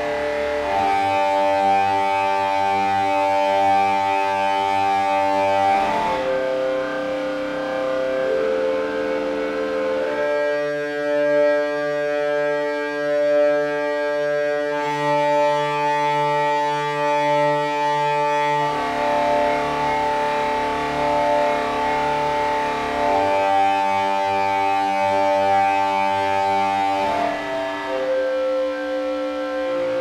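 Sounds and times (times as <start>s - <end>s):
held synthesizer chords: 0.0s - 30.0s.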